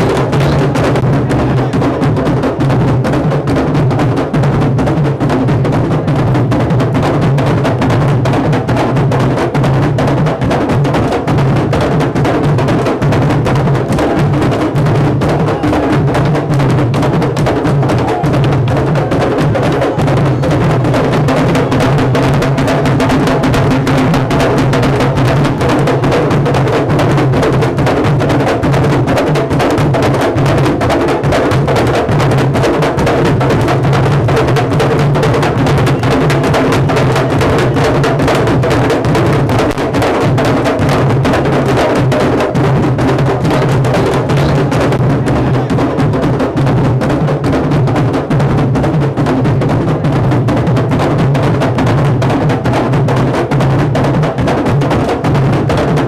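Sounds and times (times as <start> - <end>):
drum ensemble playing: 0.0 - 56.0.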